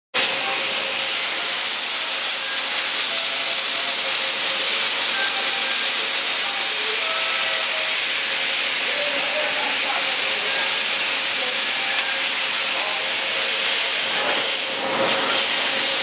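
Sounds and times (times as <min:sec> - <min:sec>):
arc welding hiss: 0:00.2 - 0:16.0.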